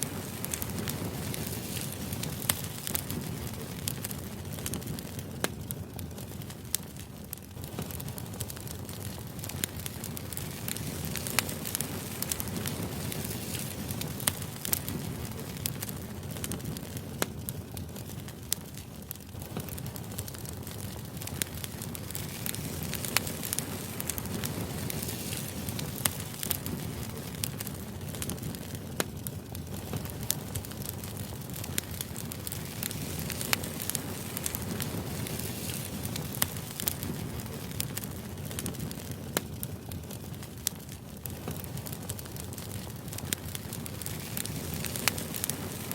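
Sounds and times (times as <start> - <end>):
sharp crackles and clicks: 0.0 - 45.9.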